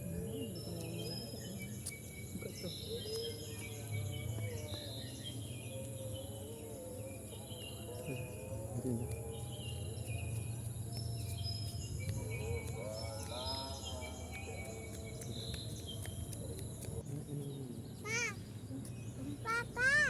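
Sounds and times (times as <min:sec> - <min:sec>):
insect drone with crickets: 0:00.0 - 0:20.0.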